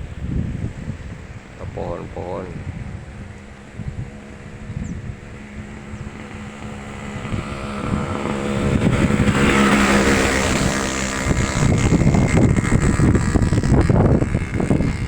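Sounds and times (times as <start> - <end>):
vehicle engine passing: 0.0 - 15.0
wind buffeting microphone: 0.0 - 15.0.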